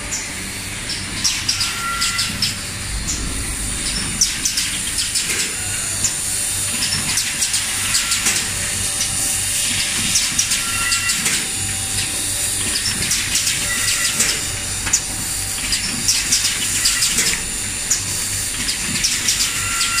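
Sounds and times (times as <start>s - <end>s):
packing machine humming: 0.0s - 20.0s
machine clicks and ticks: 0.9s - 20.0s.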